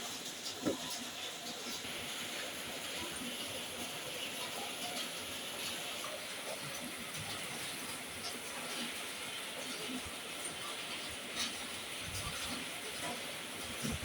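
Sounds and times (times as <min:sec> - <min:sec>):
heavy rain on a roof: 0:00.0 - 0:14.0.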